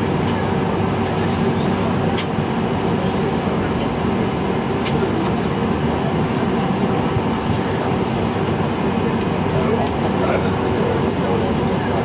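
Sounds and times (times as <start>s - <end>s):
airplane cabin hum and rumble: 0.0s - 12.0s.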